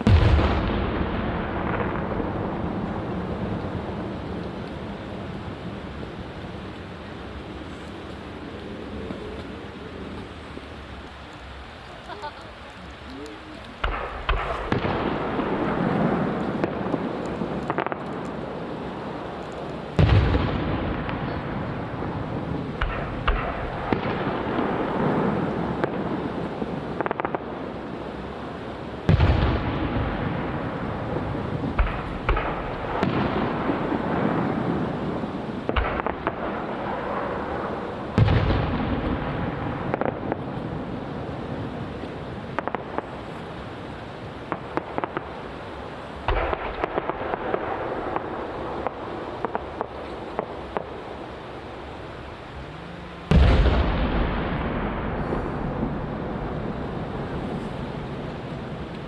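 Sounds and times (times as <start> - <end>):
rumble after booms: 0.0 - 10.6, 20.0 - 27.6, 29.0 - 51.2, 51.9 - 59.0
firework booms: 0.0 - 11.1, 13.2 - 59.0
firework crackling: 0.0 - 59.0
small firework bangs: 0.0 - 59.0.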